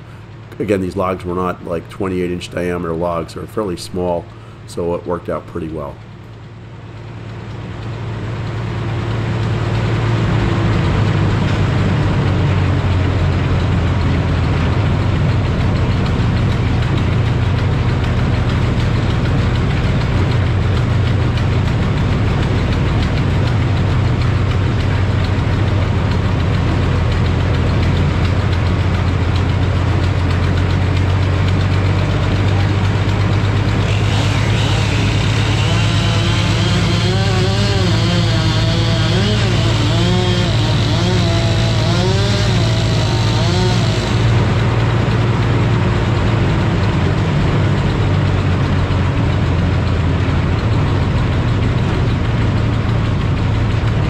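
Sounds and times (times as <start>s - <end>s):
sawmill circular saw running: 0.0s - 54.0s.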